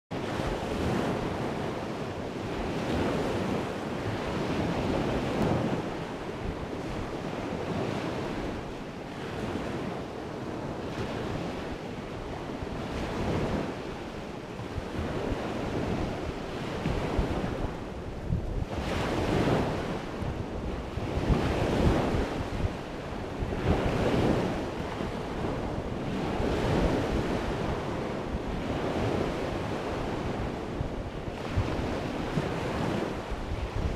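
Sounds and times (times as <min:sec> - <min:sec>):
waves washing onto beach: 0:00.1 - 0:33.9
wind on microphone: 0:00.1 - 0:33.9.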